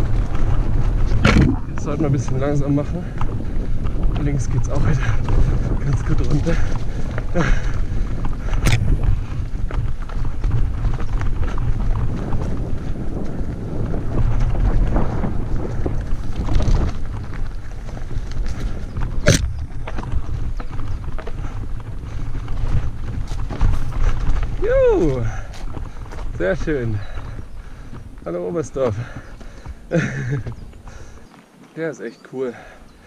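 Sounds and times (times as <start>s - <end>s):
wind on microphone: 0.0s - 31.3s
bike tyres over dirt and rocks: 0.0s - 33.0s.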